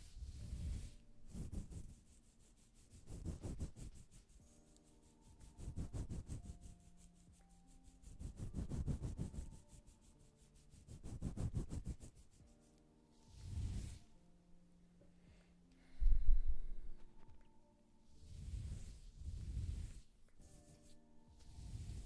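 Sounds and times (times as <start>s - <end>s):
rhythmic scraping strokes: 0.0s - 14.1s, 18.2s - 22.0s.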